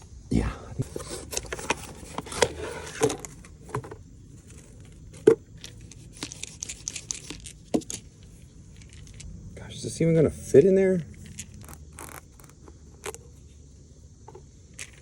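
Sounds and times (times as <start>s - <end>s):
handling clicks and rustling: 0.8s - 9.3s, 10.6s - 13.4s, 14.2s - 15.0s.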